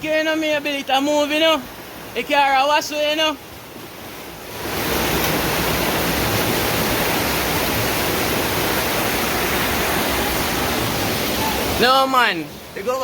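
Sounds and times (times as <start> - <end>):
rush of fast-flowing floodwater: 0.0 - 13.0.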